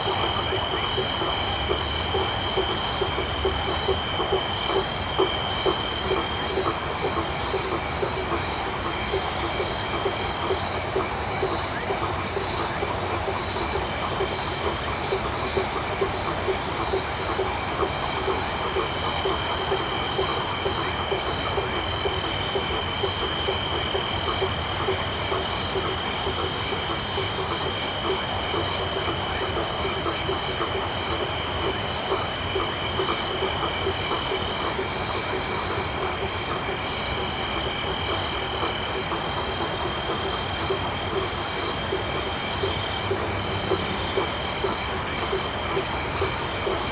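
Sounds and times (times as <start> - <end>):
frogs calling in quick notes: 0.0 - 46.9.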